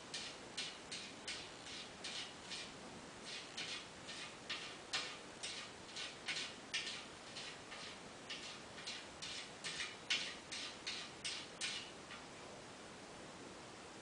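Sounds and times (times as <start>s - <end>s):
cat scratching: 0.0s - 12.2s.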